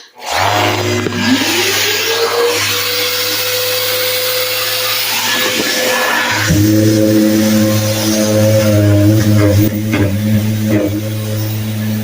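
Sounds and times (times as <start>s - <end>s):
dust extractor suction rush: 0.0s - 12.0s
orbital sander motor: 0.0s - 12.0s.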